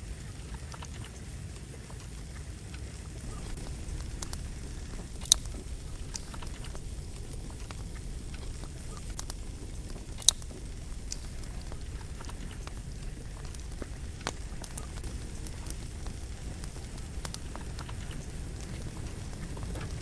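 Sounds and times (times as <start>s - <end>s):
campfire burning and crackling: 0.0s - 20.0s
firewood popping loudly: 3.2s - 20.0s.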